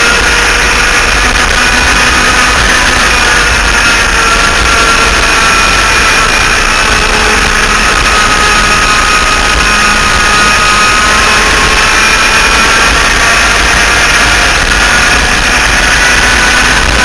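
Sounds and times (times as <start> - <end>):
kart engines running hard: 0.0 - 17.0
wind rush on microphone: 0.0 - 17.0.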